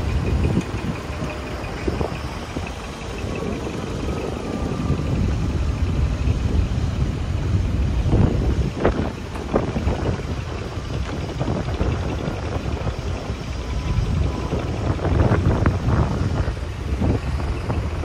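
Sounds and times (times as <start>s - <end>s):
diesel truck engines idling: 0.0s - 18.0s.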